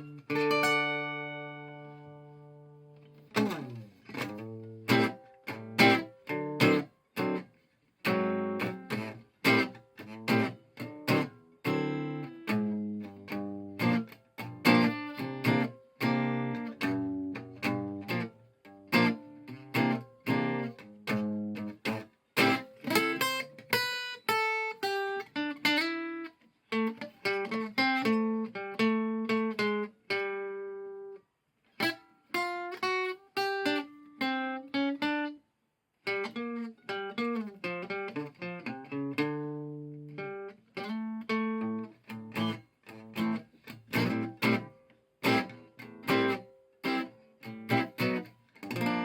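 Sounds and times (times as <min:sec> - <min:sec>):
plucked string instrument melody: 0:00.0 - 0:31.1, 0:36.1 - 0:49.0.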